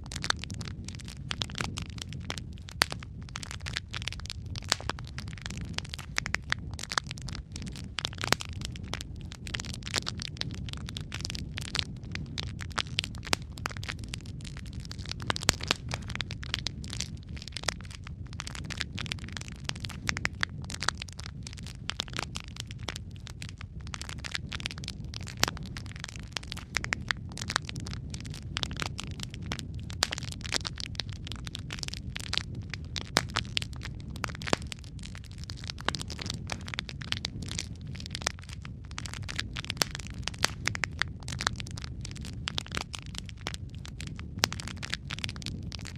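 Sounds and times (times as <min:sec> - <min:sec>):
logs crackling and popping: 0:00.0 - 0:45.9.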